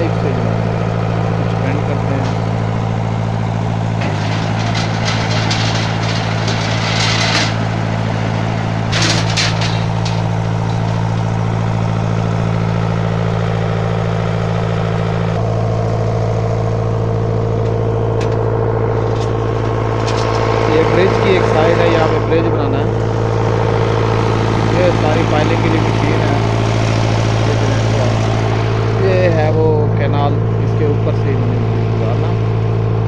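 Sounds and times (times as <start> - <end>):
low machine drone: 0.0 - 33.0.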